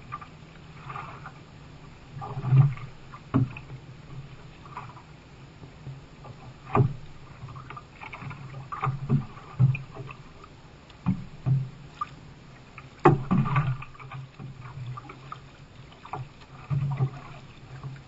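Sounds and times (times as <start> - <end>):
low rumble of water: 0.0 - 18.0
paddle strokes splashing: 0.0 - 18.0
waves knocking against hull: 0.0 - 18.0.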